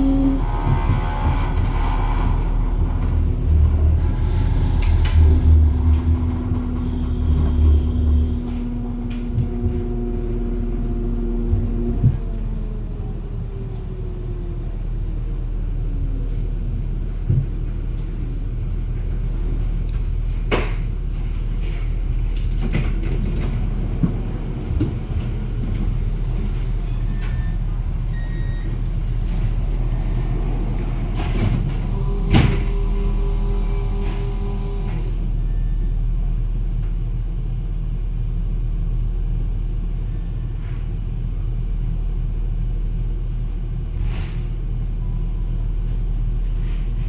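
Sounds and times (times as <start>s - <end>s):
tram running gear rumble: 0.0s - 47.0s.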